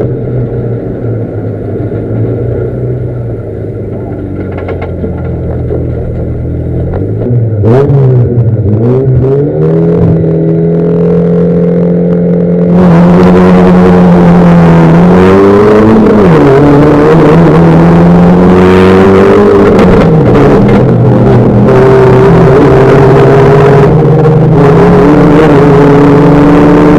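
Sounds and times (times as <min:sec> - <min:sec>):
rally car engine revving: 0:00.0 - 0:26.9.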